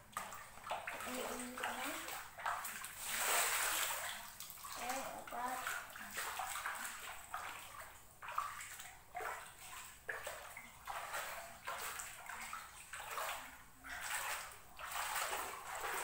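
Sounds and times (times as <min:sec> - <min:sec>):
footsteps splashing through water: 0:00.1 - 0:16.0.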